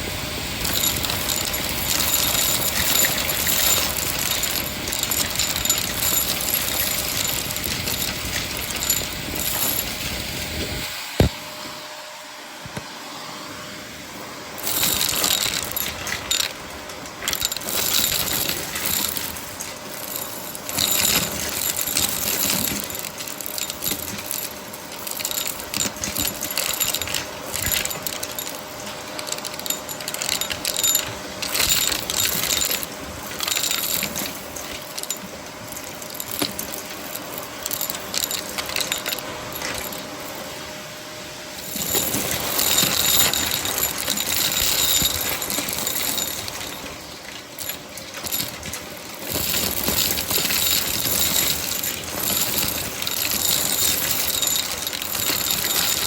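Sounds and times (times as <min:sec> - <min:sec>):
vacuum cleaner running: 0:00.0 - 0:47.2.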